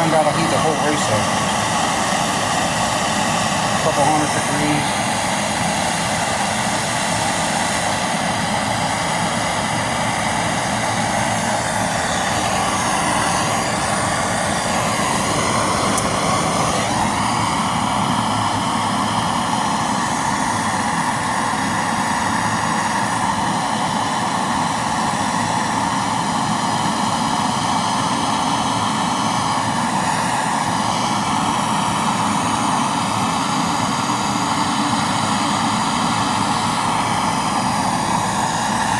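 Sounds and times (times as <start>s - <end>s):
blowtorch flame roaring: 0.0s - 38.9s.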